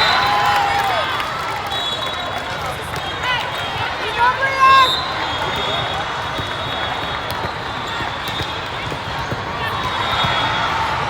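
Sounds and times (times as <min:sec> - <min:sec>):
crowd clapping: 0:00.0 - 0:11.0
crowd voices: 0:00.0 - 0:11.0.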